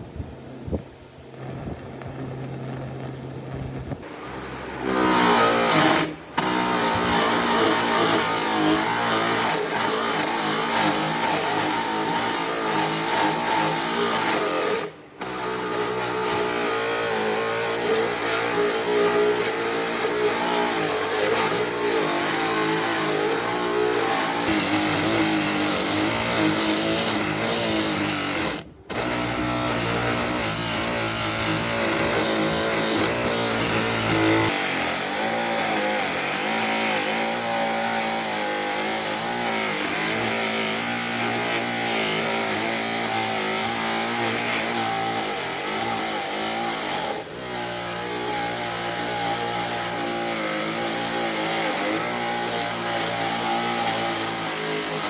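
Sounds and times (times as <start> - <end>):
electric power tool motor running: 0.8 - 55.0.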